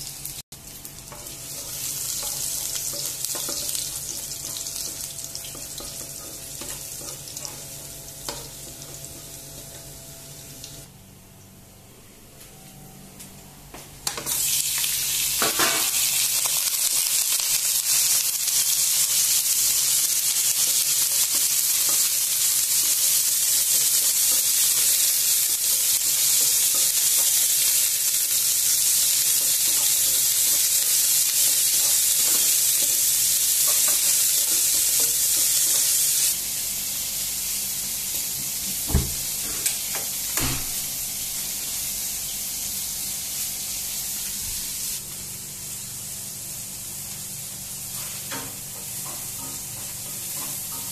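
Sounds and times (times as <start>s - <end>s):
meat sizzling in hot oil: 0.0s - 7.8s, 14.3s - 50.9s.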